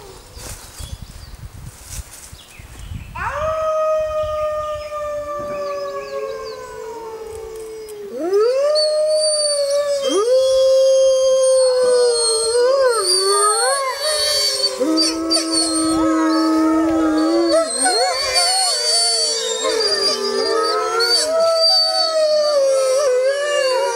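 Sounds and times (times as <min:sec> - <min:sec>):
wolves howling in chorus: 0:03.2 - 0:23.9.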